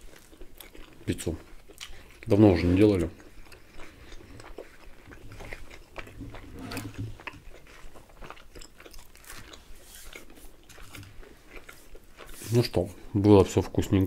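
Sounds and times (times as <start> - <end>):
people chewing pizza: 0.0 - 14.0.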